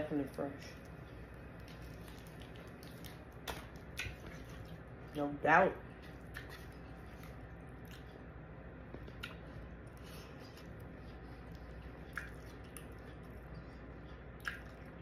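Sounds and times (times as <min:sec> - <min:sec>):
person chewing food: 0:00.7 - 0:05.2, 0:05.8 - 0:15.0.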